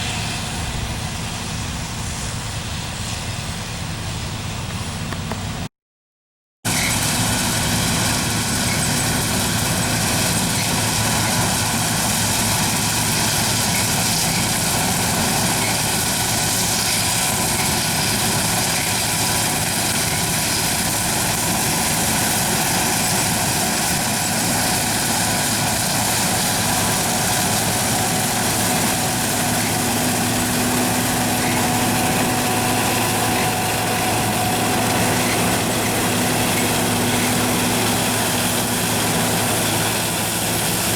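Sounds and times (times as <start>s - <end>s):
combine harvester engine drone: 0.0s - 5.7s, 6.7s - 40.9s
steady whining tones: 6.9s - 40.9s.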